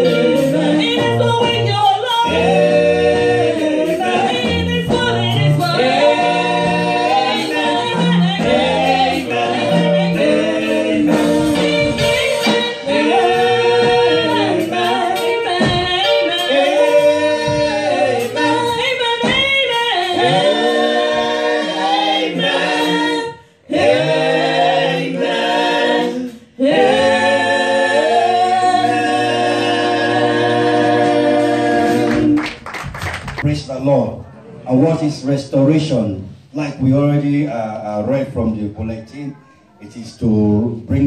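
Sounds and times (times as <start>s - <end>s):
women singing gospel in harmony: 0.0s - 33.4s.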